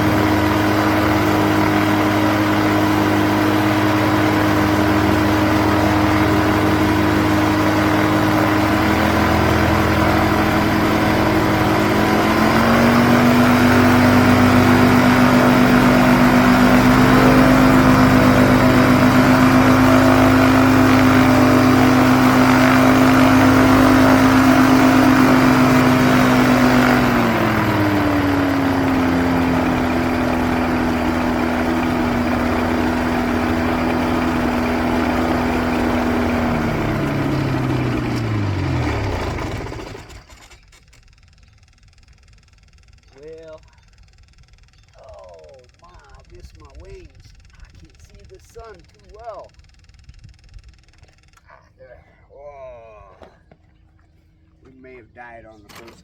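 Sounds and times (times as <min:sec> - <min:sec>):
light aircraft engine running: 0:00.0 - 0:51.9, 0:53.0 - 0:56.0.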